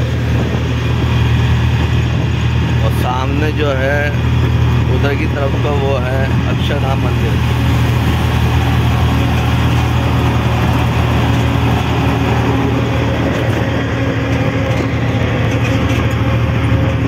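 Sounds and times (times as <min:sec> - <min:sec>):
auto-rickshaw engine droning: 0:00.0 - 0:17.0
road traffic noise: 0:00.0 - 0:17.0.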